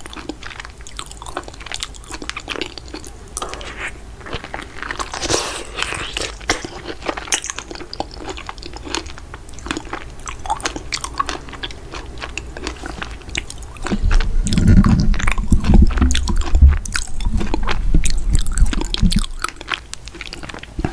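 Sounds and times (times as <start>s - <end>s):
close biting and chewing: 0.0s - 20.9s.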